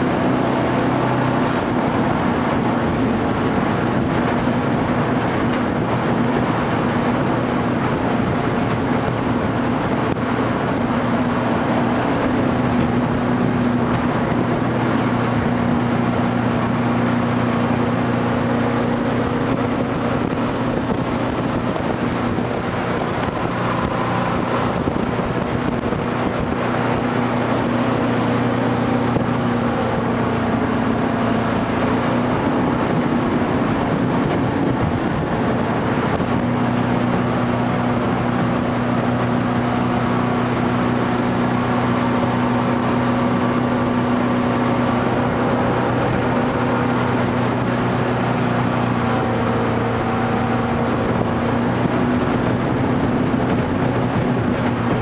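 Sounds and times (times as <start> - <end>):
boat engine drone: 0.0 - 55.0
rushing water: 0.0 - 55.0
wind: 0.0 - 55.0.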